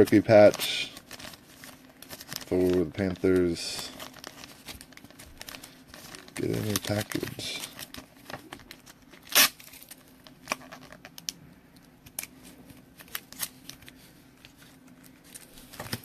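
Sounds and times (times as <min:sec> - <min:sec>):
plastic card sleeve rustling: 0:00.0 - 0:11.3, 0:12.0 - 0:16.0.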